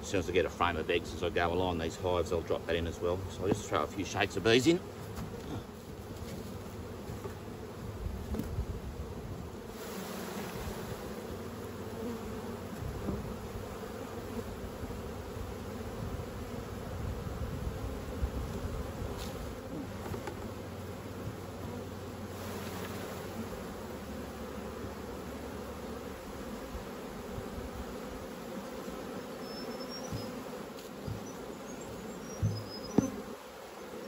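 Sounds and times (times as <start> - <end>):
bees buzzing: 0.0 - 34.0.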